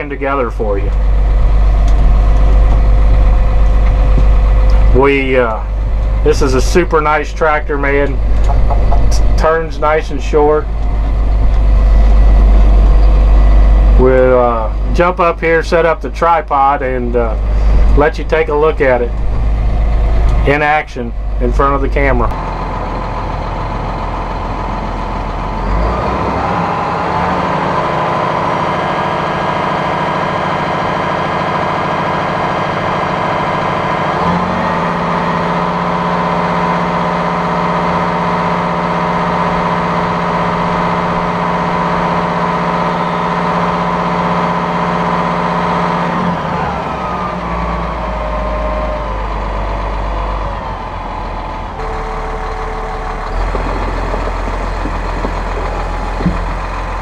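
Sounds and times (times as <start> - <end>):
diesel tractor engine revving: 0.0 - 57.0.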